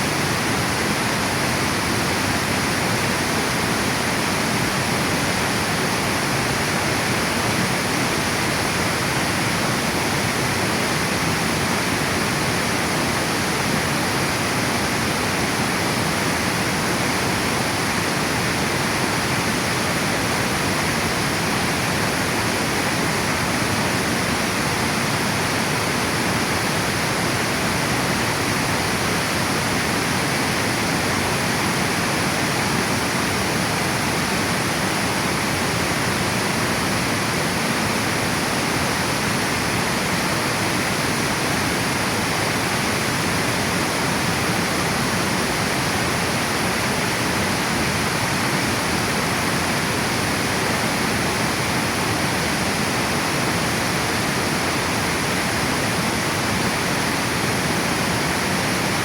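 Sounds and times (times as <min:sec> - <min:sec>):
water rushing over a dam: 0:00.0 - 0:59.0.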